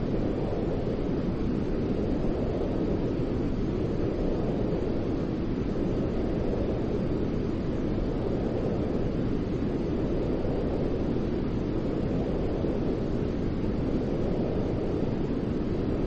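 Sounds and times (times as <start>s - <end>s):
deep rumbling white noise: 0.0s - 16.0s.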